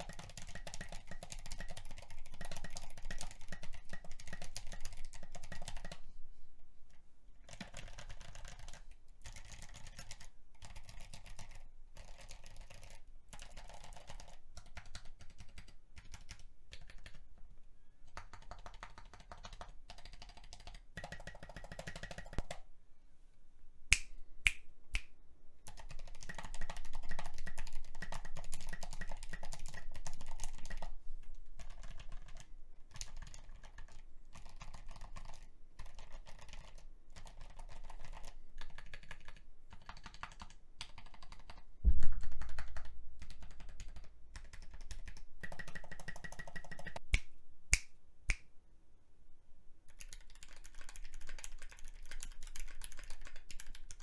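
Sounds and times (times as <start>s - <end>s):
mechanical keyboard typing: 0.0s - 6.0s, 7.4s - 17.2s, 18.1s - 22.6s, 25.7s - 30.9s, 31.6s - 47.0s, 49.9s - 54.0s.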